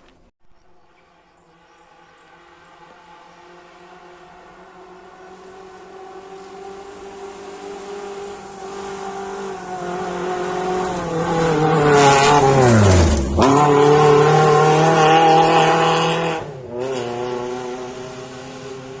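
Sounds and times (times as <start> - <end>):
rally car engine passing: 1.1 - 19.0.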